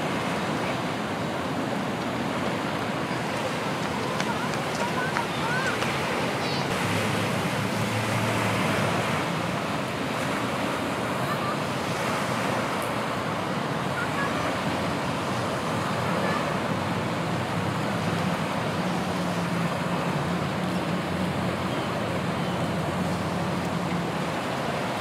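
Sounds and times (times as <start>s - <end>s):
rushing noise outdoors: 0.0s - 25.0s.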